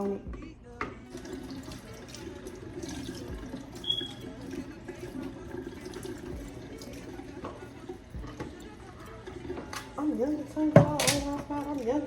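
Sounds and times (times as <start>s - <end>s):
tap running into sink: 1.1s - 11.9s.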